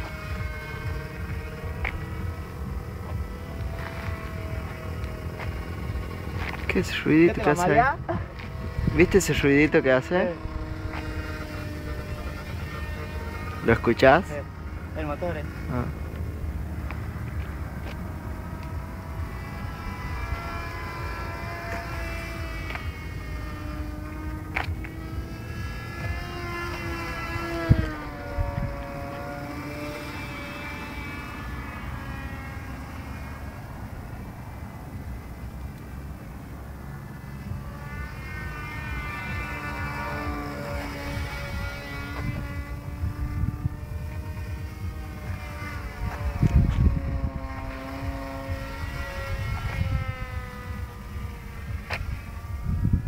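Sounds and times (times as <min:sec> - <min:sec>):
model airplane engine buzzing: 0:00.0 - 0:53.0.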